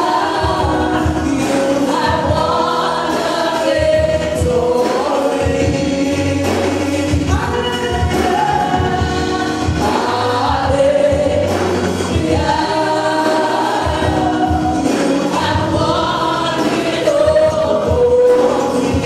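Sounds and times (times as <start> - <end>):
musical accompaniment: 0.0 - 19.0
voices singing along: 0.0 - 19.0
woman singing into a microphone: 0.0 - 19.0.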